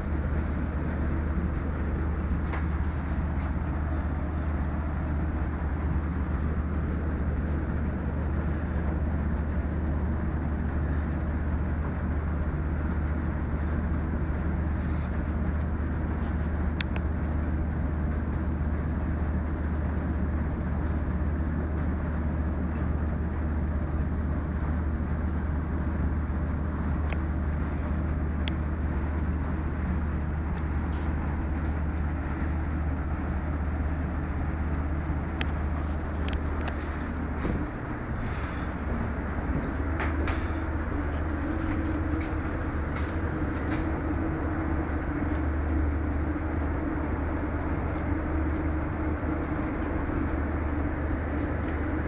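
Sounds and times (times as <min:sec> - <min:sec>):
low rumble: 0:00.0 - 0:52.0.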